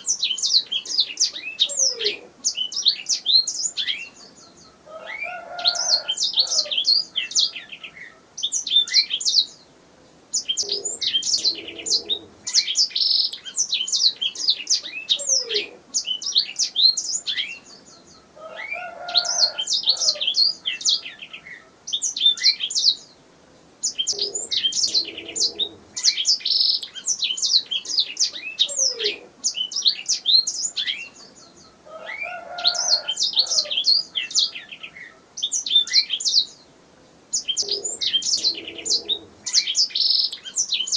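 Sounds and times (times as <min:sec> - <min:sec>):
canary singing: 0:00.0 - 0:09.6, 0:10.3 - 0:23.2, 0:23.8 - 0:36.7, 0:37.3 - 0:40.9.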